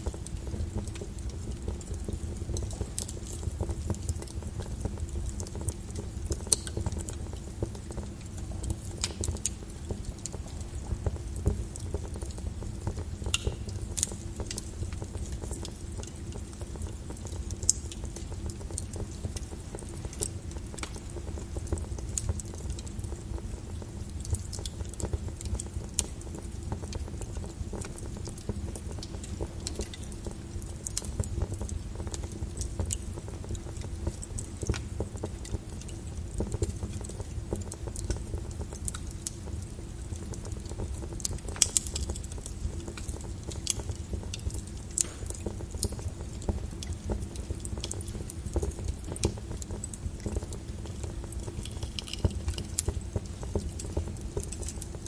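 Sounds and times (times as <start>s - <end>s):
rain falling steadily: 0.0s - 55.0s
wood fire crackling and popping: 0.0s - 55.0s.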